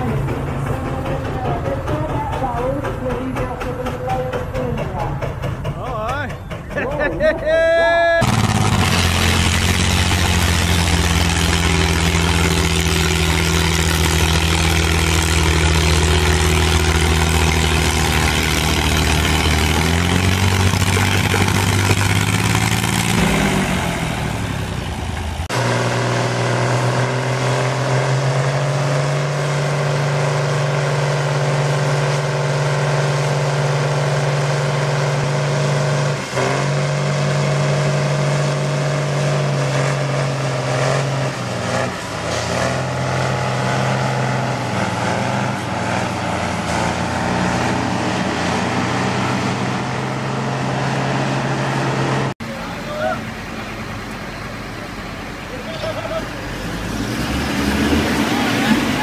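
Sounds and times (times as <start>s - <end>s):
tractor diesel engines labouring: 0.0s - 59.0s.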